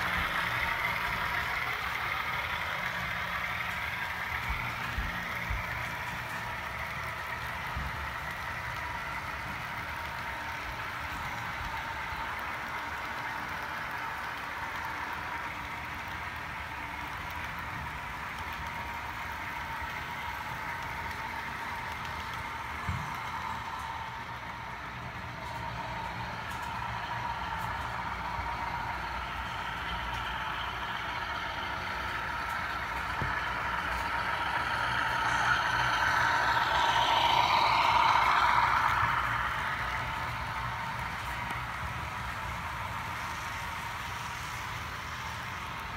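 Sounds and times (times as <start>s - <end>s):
model train wheels clattering: 0.0s - 45.9s
motor hum: 0.0s - 45.9s.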